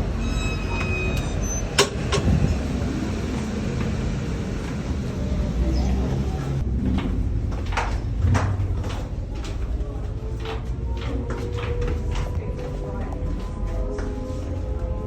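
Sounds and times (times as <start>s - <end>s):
road vehicle rumble: 0.0s - 15.0s.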